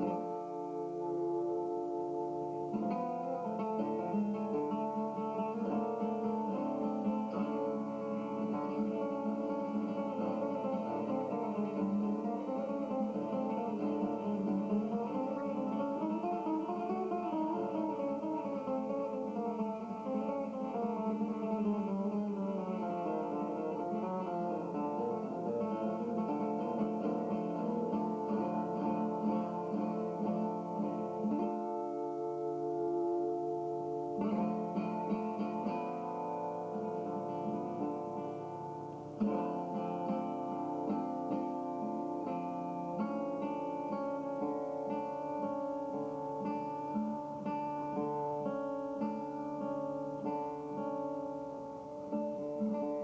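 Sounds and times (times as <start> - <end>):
plucked acoustic guitar: 0.0 - 53.0.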